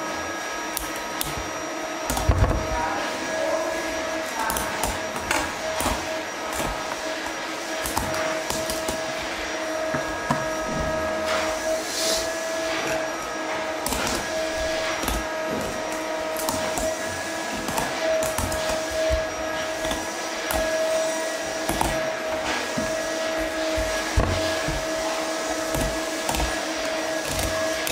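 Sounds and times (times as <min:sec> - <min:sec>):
small electric motor hum: 0:00.0 - 0:27.9.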